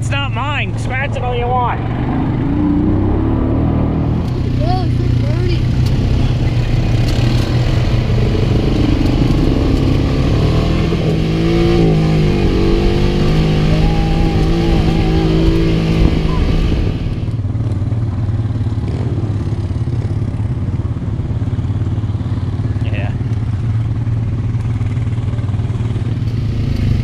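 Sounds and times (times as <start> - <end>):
utility vehicle engine running: 0.0 - 27.0.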